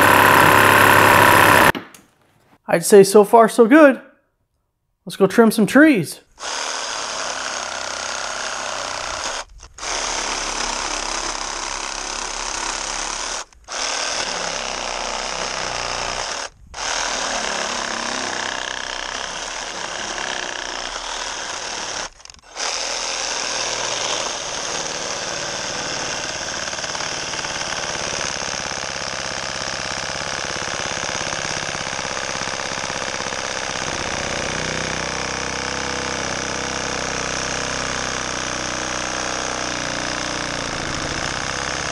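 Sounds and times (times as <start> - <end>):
reciprocating saw cutting branches: 0.0 - 1.7, 6.4 - 41.9.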